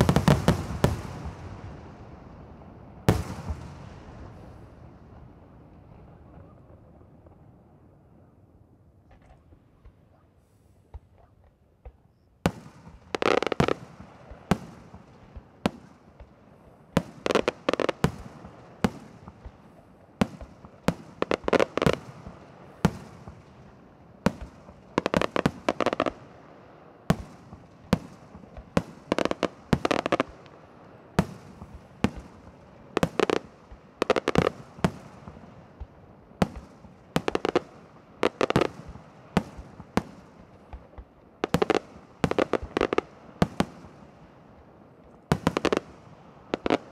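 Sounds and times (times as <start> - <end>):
fireworks bursting: 0.0 - 7.0, 9.1 - 46.9.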